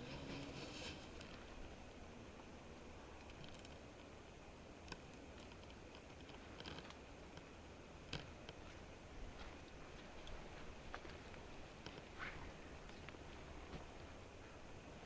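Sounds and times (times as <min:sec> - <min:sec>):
campfire crackling: 0:00.0 - 0:14.3.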